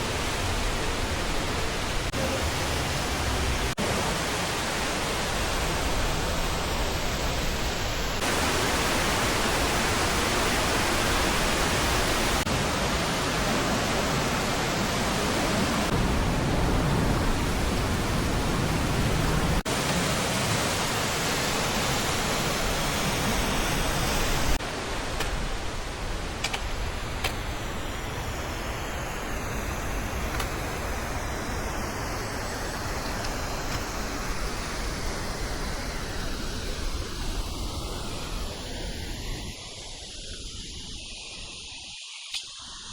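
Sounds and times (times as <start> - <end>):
rush of falling water: 0.0 - 42.9.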